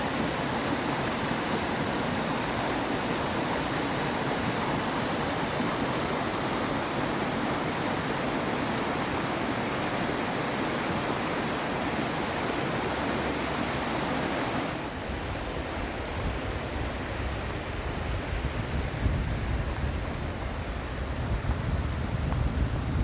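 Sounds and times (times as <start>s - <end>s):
rushing stream water: 0.0s - 23.0s.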